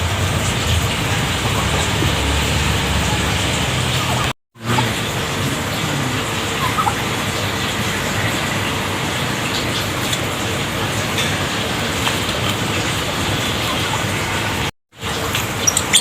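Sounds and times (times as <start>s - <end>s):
steady rushing noise: 0.0s - 15.2s.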